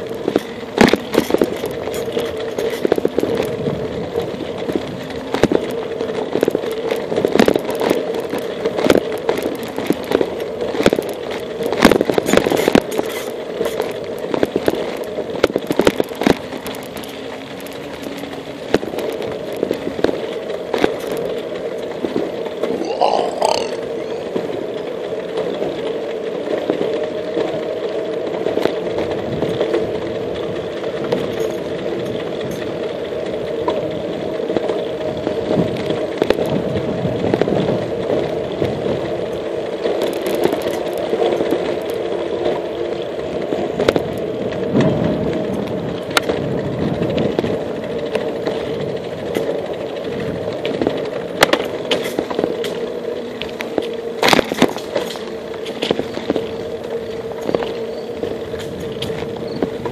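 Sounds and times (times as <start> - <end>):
bicycle tyres rolling: 0.0 - 59.9
bike rattles and clicks: 0.0 - 59.9.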